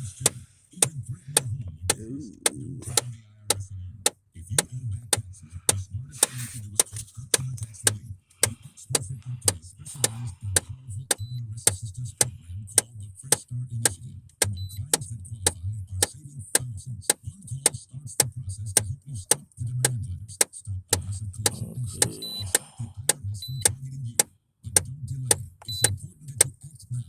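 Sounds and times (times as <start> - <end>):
steady ticking clicks: 0.0 - 26.6.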